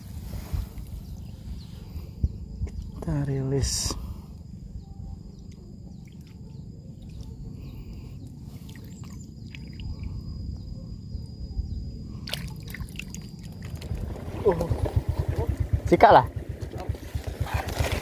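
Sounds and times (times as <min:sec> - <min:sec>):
low steady rumble: 0:00.0 - 0:18.0
high-pitched bird or insect tones: 0:00.6 - 0:17.5.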